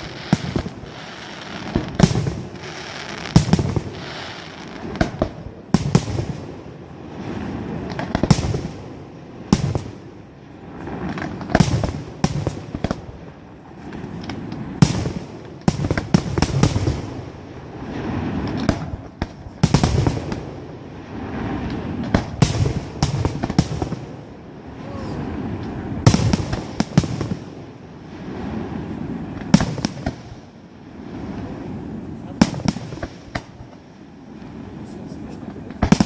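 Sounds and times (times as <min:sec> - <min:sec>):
firework crackle: 0:00.0 - 0:36.0.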